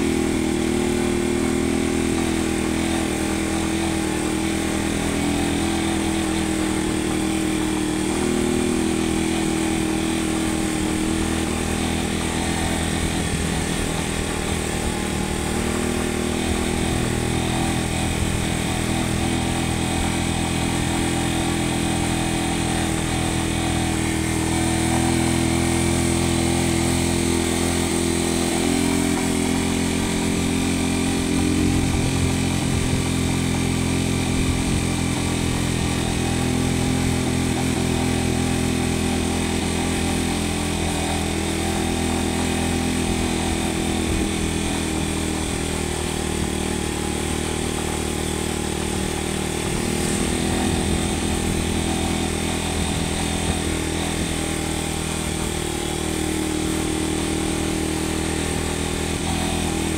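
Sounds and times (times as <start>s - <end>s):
motorcycle engine running: 0.0s - 59.9s
road hiss: 0.0s - 59.9s
wind: 0.0s - 59.9s.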